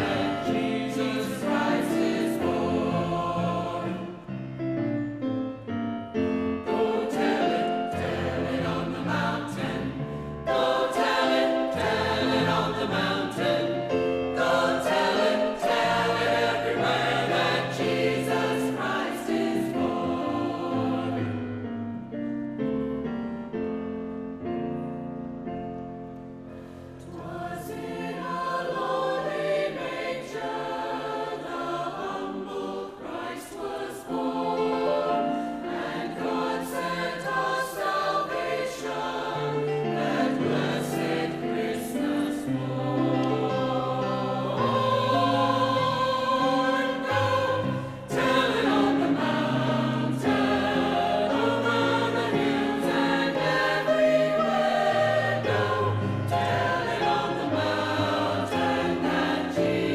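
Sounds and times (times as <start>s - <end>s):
choir singing: 0.0s - 5.2s, 6.2s - 22.1s, 26.7s - 59.9s.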